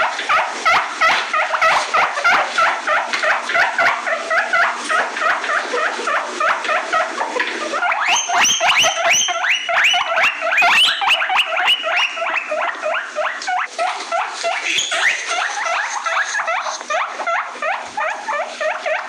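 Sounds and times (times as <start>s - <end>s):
guinea pigs wheeking: 0.0s - 19.0s.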